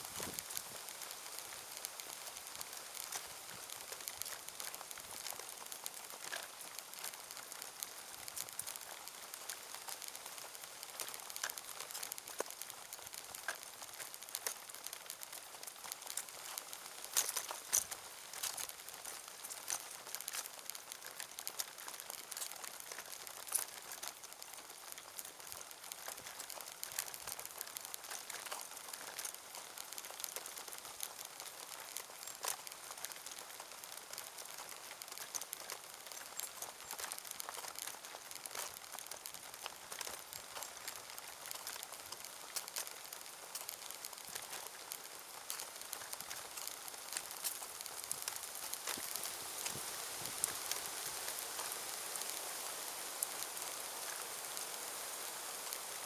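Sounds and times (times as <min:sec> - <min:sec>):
crackling and crinkling: 0:00.0 - 0:56.0.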